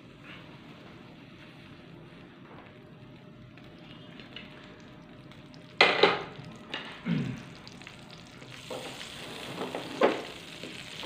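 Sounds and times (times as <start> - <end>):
faint sizzle: 0.0 - 11.0.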